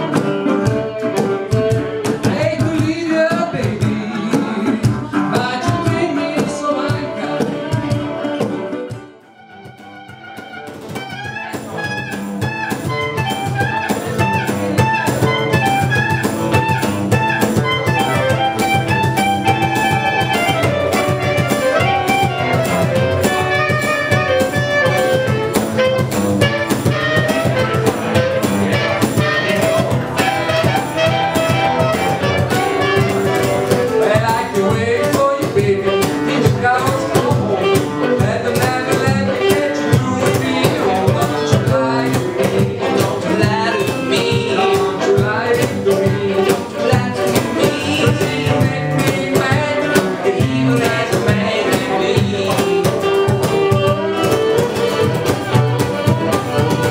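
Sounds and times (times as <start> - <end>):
clarinet melody: 0.0 - 2.7, 6.8 - 56.9
acoustic guitar: 0.0 - 56.9
percussion beat: 0.0 - 56.9.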